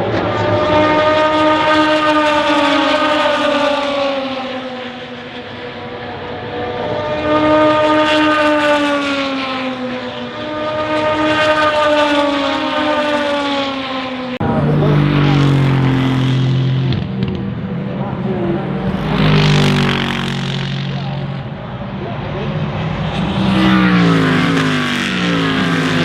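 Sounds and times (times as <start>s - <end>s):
lower-pitched engine: 0.0s - 26.0s
race cars passing at speed: 0.0s - 26.0s.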